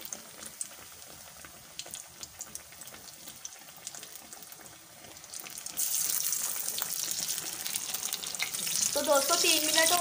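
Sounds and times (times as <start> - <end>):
battered fish deep-frying in oil: 0.0 - 10.0
oil crackles and pops: 0.0 - 10.0.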